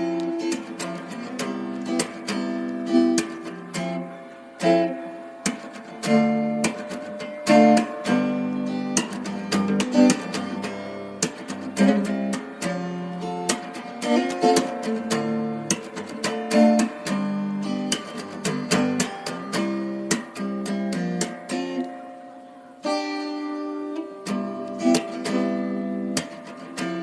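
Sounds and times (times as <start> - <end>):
acoustic guitar chords strummed: 0.0 - 27.0.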